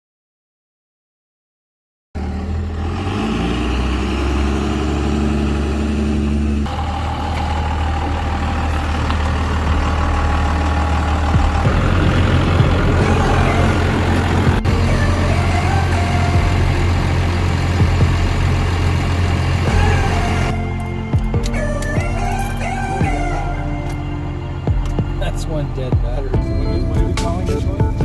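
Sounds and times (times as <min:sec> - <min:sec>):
vehicle engine running: 0:02.2 - 0:28.0.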